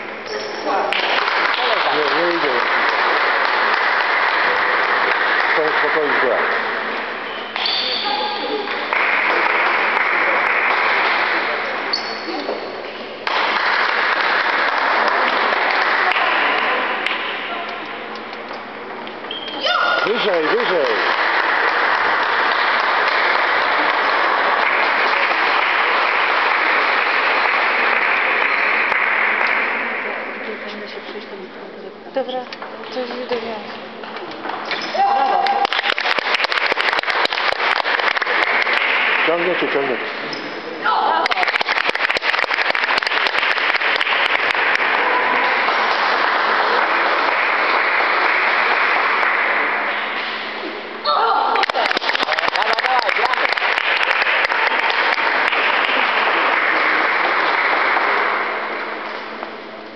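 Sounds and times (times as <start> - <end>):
crowd noise in sports hall: 0.0 - 59.9
audience applause: 0.7 - 7.2, 8.5 - 11.9, 13.1 - 17.4, 20.0 - 30.4, 34.9 - 40.2, 40.9 - 50.8, 51.5 - 59.9.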